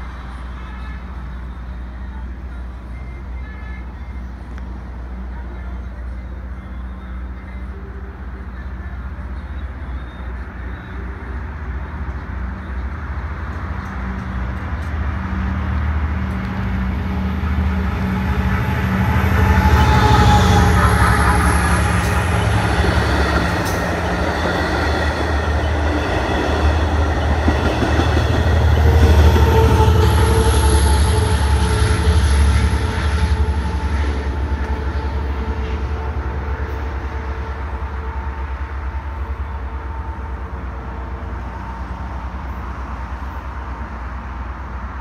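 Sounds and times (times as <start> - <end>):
diesel locomotive engine rumble: 0.0 - 45.0.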